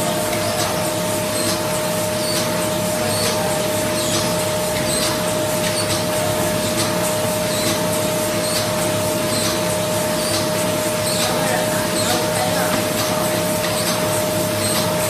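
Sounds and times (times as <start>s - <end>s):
machine hissing: 0.0s - 15.0s.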